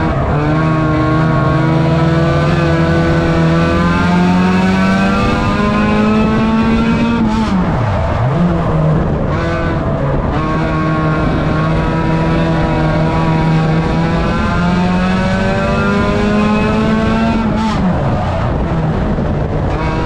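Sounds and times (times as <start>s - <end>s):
racing car engine under throttle: 0.0s - 20.0s.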